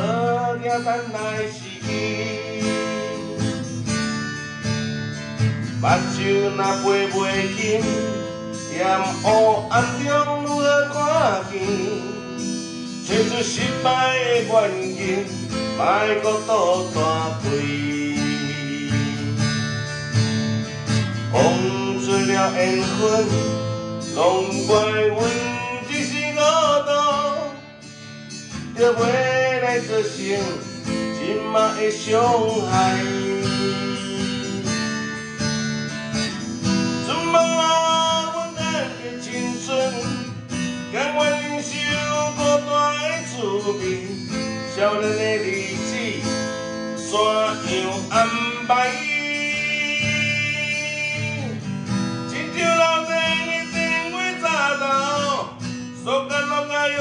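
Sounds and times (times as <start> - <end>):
man singing: 0.0 - 4.3, 5.7 - 20.0, 20.9 - 35.4, 36.9 - 57.0
acoustic guitar strumming: 0.0 - 57.0.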